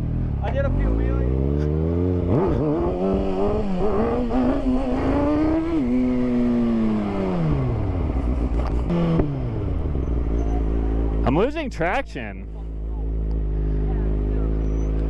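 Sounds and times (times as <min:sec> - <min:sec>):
motorcycle engine revving: 0:00.0 - 0:11.4, 0:12.5 - 0:15.0.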